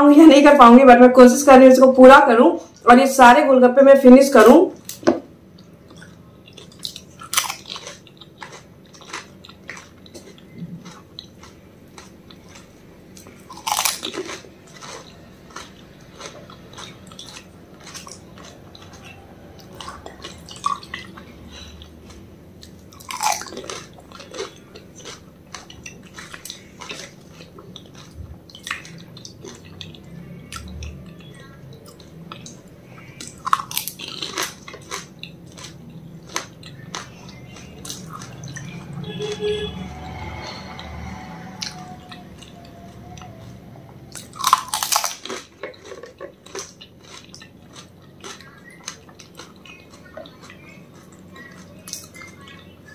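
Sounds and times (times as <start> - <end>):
crunching and chewing: 4.8 - 52.9.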